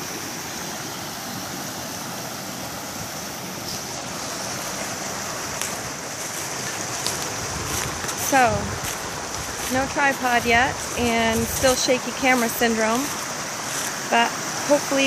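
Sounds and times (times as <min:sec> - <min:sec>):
river and waterfalls rushing: 0:00.0 - 0:15.0.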